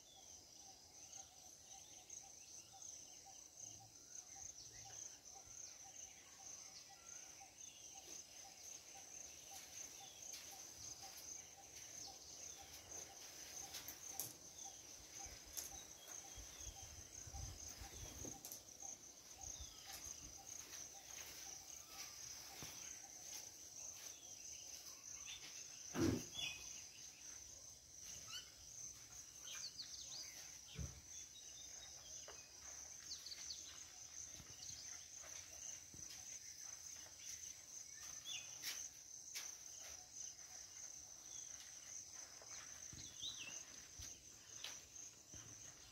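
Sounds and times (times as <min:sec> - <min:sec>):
bird chirps: 0:00.0 - 0:38.8
insects droning: 0:00.0 - 0:45.9.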